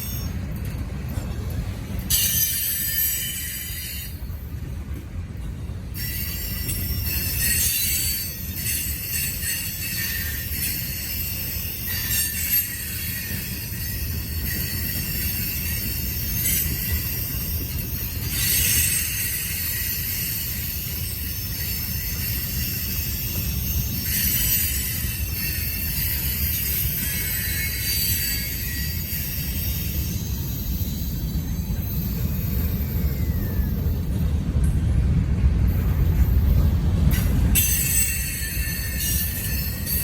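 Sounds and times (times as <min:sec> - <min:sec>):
steel wheel squeal: 0:00.0 - 0:04.8, 0:05.9 - 0:34.6, 0:35.6 - 0:40.0
freight train cars rumbling: 0:00.0 - 0:40.0.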